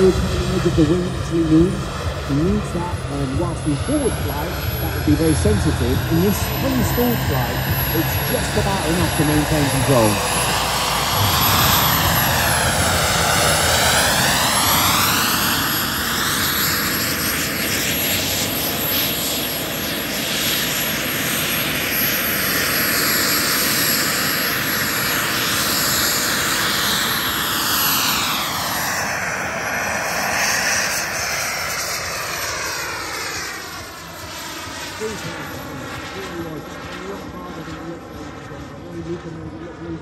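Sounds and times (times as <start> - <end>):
model jet turbine roar: 0.0 - 40.0.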